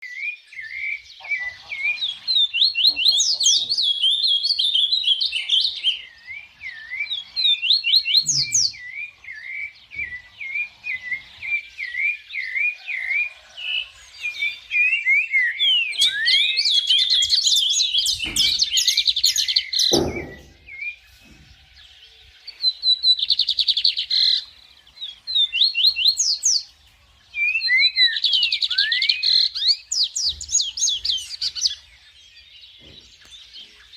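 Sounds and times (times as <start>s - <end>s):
birds chirping and singing: 0.0s - 33.9s.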